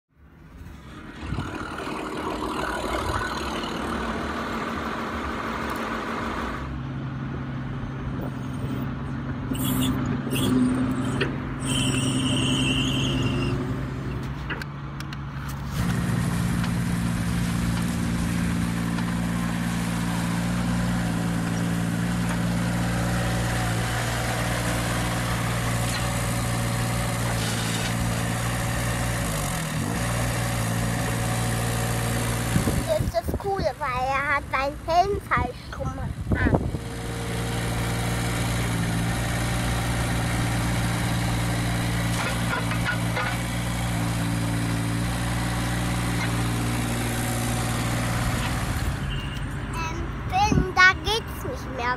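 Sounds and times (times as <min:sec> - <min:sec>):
heavy vehicle engine running: 0:00.1 - 0:51.9.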